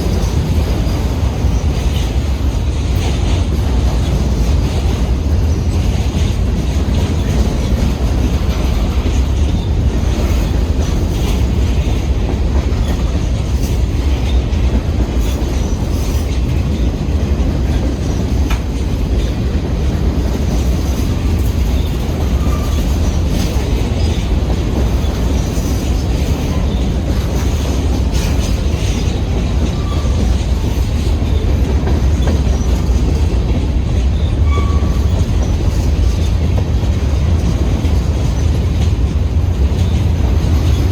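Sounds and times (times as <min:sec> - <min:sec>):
train wheel squeals: 0:00.0 - 0:38.8, 0:39.8 - 0:40.9
freight train rumbling past: 0:00.0 - 0:40.9.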